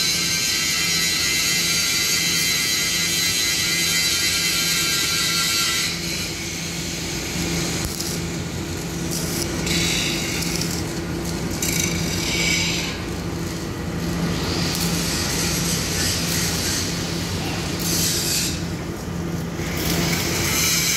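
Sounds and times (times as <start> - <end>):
welding arc crackling and hissing: 0.0 - 20.9.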